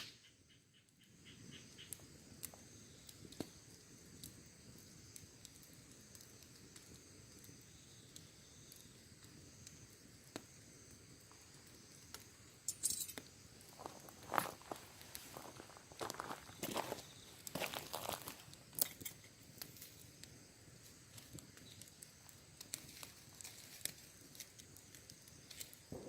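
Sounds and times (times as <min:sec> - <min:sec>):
insects chirping: 0:00.0 - 0:26.0
wood fire crackling: 0:00.0 - 0:26.0.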